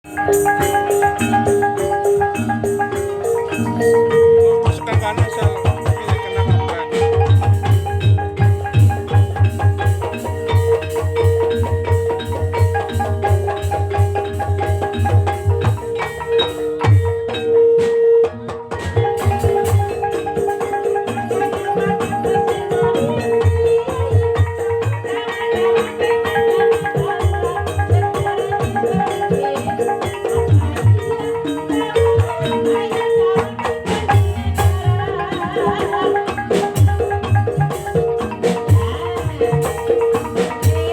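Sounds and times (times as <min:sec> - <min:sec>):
mallet-struck keyed instruments melody: 0:00.0 - 0:40.9
drum strokes: 0:00.1 - 0:25.2, 0:26.9 - 0:40.9.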